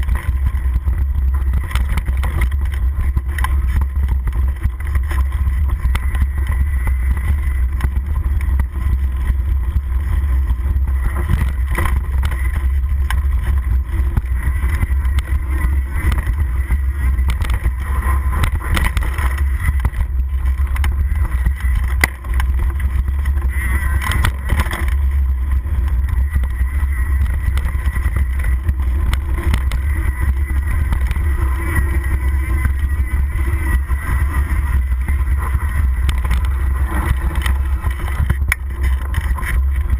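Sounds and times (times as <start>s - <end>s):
bike rattles and knocks: 0.0s - 39.9s
bike tyre noise on dirt: 0.0s - 39.9s
wind rumble on microphone: 0.0s - 39.9s.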